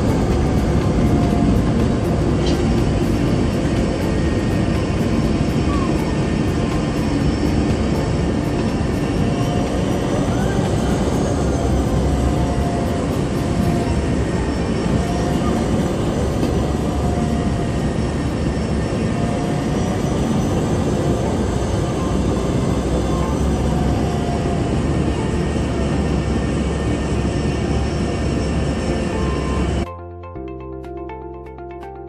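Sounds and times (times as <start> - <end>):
faint wavering whine: 0.0 - 29.9
propeller plane engine running: 0.0 - 29.9.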